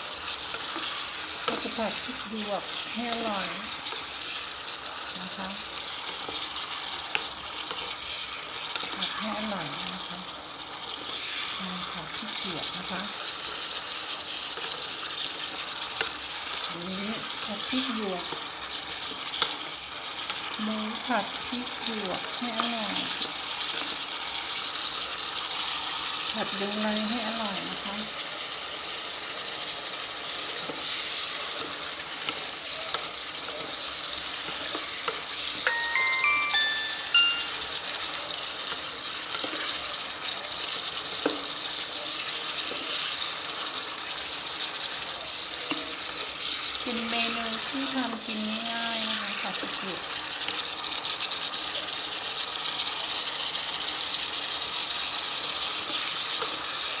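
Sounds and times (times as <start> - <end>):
meat and peppers sizzling in a pan: 0.0 - 57.0.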